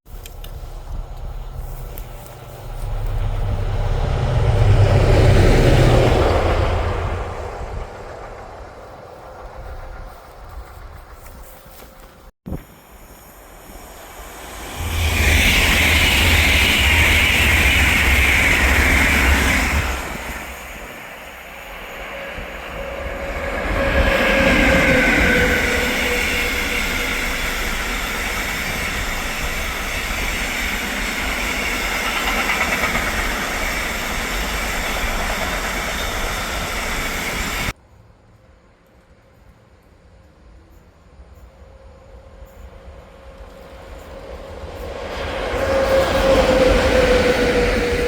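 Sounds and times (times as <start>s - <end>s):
train passing at speed: 0.1s - 48.0s.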